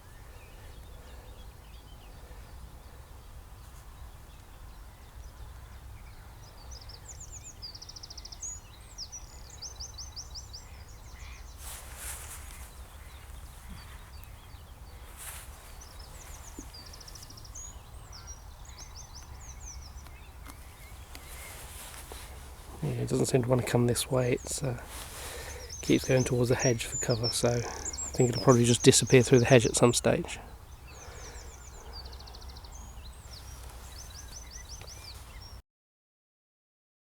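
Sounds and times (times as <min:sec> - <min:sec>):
songbirds singing: 0:00.0 - 0:35.6.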